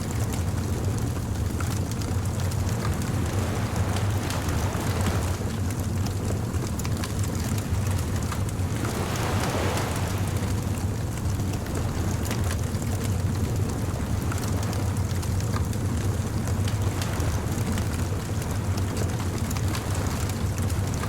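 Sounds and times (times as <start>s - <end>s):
surf rumbling: 0.0s - 21.0s
wave washing in: 0.0s - 21.0s.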